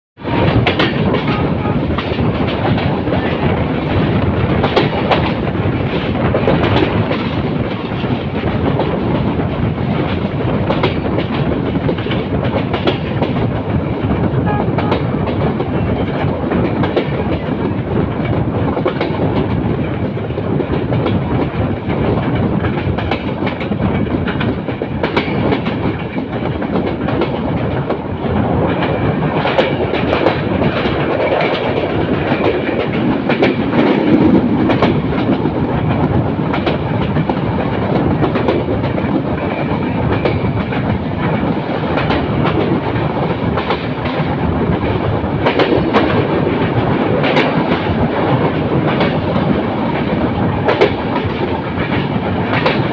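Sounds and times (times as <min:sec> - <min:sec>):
rushing air: 0:00.2 - 0:52.9
train wheels rumbling on rails: 0:00.2 - 0:52.9
wheels clacking over rail joints: 0:00.2 - 0:52.9.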